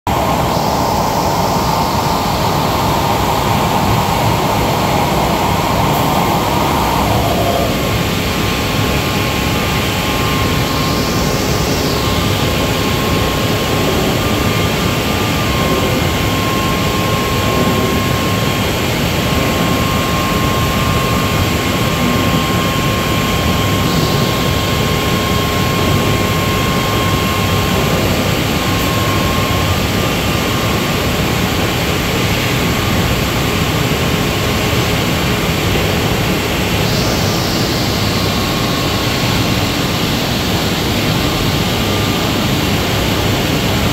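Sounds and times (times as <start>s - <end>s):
higher machine whine: 0.1s - 43.9s.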